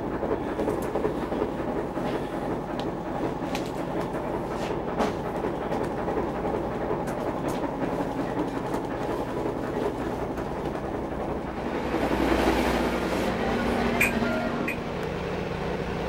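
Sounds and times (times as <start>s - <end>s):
boat machinery drone: 0.0s - 16.0s.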